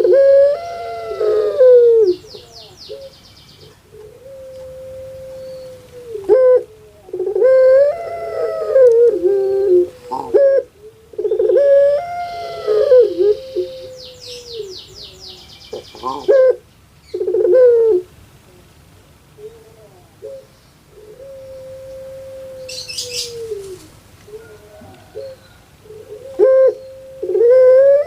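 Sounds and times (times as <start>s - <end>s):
dove cooing: 0.0s - 28.0s.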